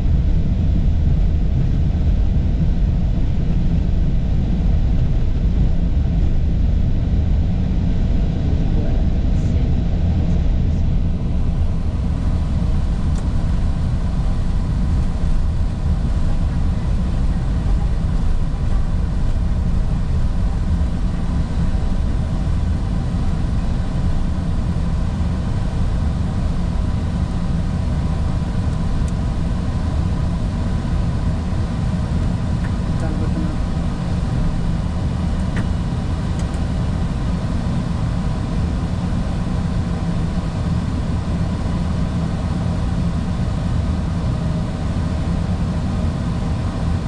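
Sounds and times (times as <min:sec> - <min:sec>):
aircraft engines rumbling: 0:00.0 - 0:47.0.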